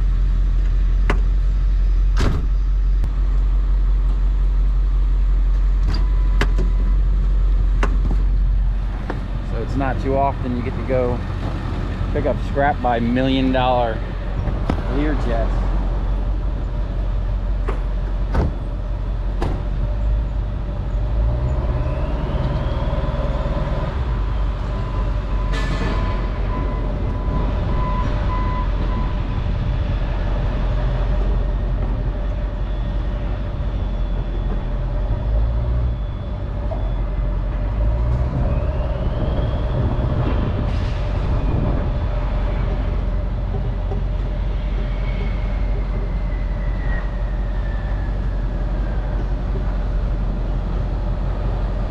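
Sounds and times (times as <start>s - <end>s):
engine rumble: 0.0s - 51.9s.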